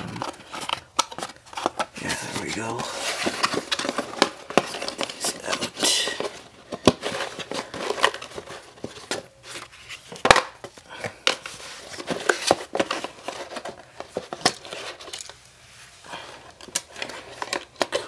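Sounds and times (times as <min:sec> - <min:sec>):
plastic and cardboard rustling: 0:00.0 - 0:18.0.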